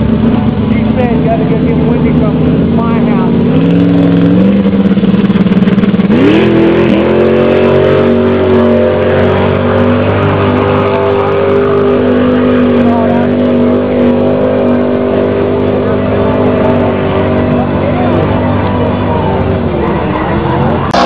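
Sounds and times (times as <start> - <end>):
engine revving at full throttle: 0.0 - 21.0.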